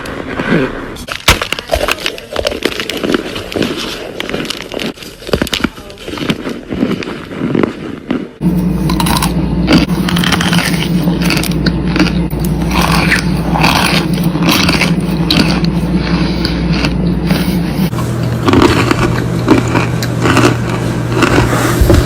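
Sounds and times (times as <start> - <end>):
steady low hum: 0.0 - 22.0
crunchy chewing: 1.0 - 22.0.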